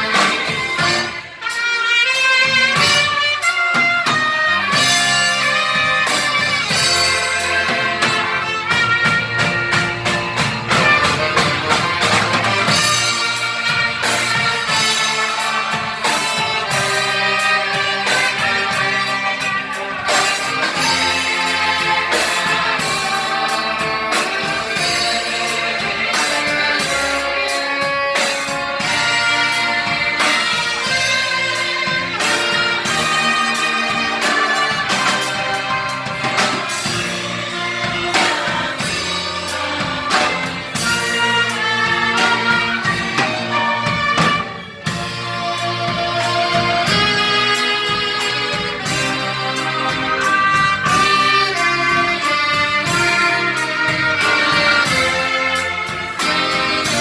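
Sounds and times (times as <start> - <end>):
orchestra playing a hymn: 0.0 - 57.0
percussion strikes: 0.0 - 57.0.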